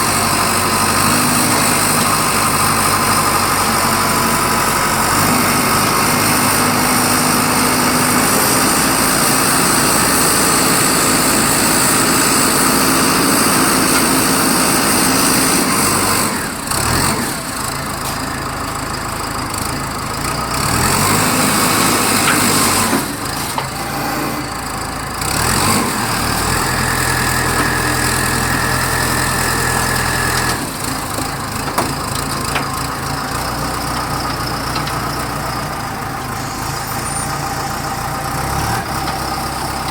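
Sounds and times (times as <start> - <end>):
concrete mixer engine running: 0.0 - 39.9.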